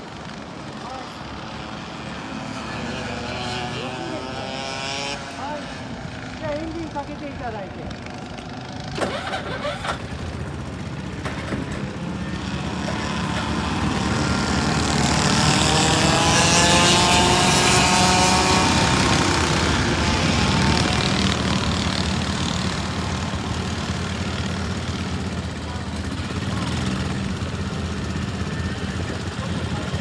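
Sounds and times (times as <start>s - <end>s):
kart engine passing by: 0.0s - 30.0s.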